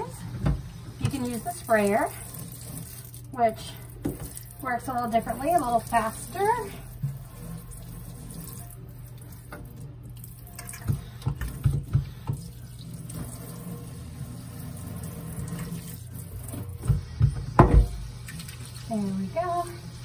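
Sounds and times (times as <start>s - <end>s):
water spraying into metal sink: 0.0s - 20.0s.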